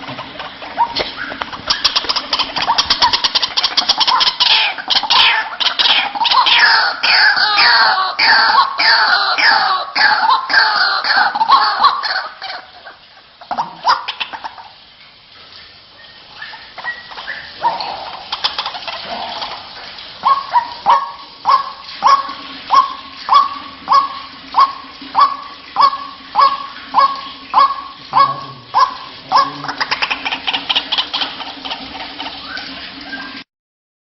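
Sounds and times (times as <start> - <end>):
waterhen calling: 0.0 - 33.4.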